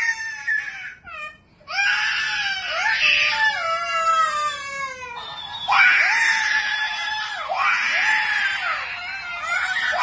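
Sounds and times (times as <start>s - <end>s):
toddler crying: 0.0s - 10.0s.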